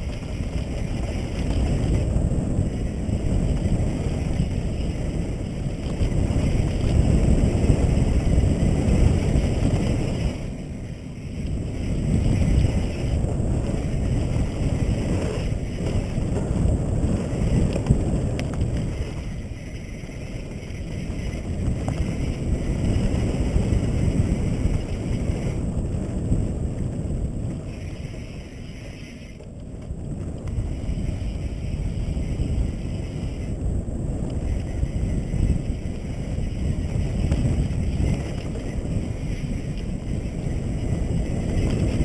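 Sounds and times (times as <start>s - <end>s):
bike rattle: 0.0s - 42.0s
wind buffeting microphone: 0.0s - 42.0s.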